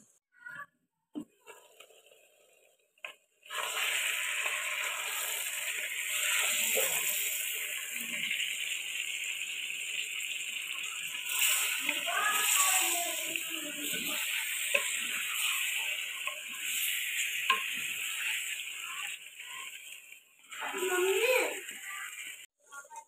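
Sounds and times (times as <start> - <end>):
chicken sizzling in oil: 1.4 - 22.5.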